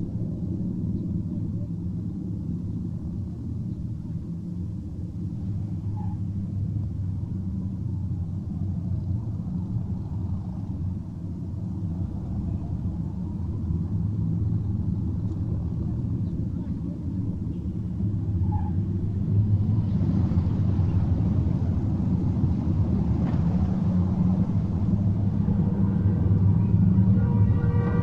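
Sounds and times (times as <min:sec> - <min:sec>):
low mechanical rumble with hum: 0:00.0 - 0:28.0.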